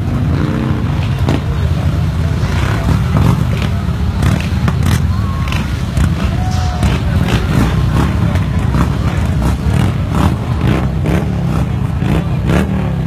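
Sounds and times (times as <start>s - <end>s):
crowd chattering and calling out: 0.0s - 13.0s.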